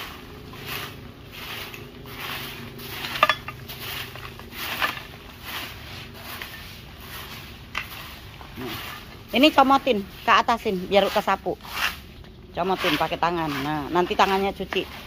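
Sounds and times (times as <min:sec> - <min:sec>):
broom sweeping leaves: 0:00.0 - 0:15.0.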